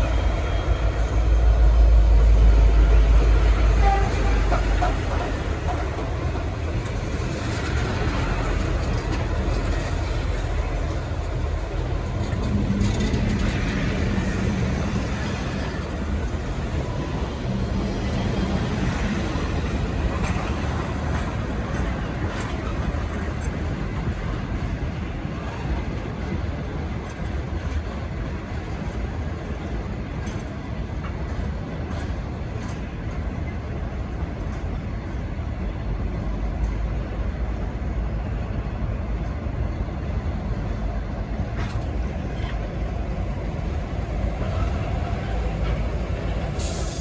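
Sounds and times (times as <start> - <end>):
train engine and wheels rumbling: 0.0 - 47.0.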